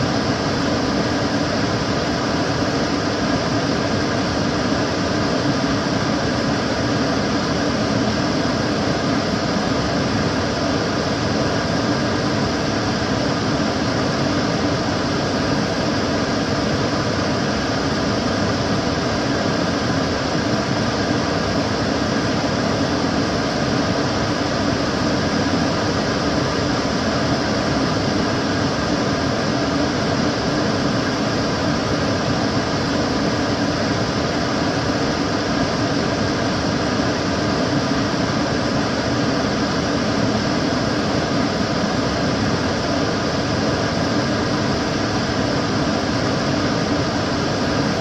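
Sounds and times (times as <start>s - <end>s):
extractor fan running: 0.0s - 48.0s.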